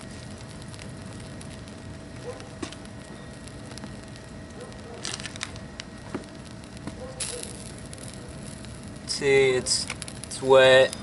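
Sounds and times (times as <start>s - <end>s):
small crackles: 0.0s - 11.0s.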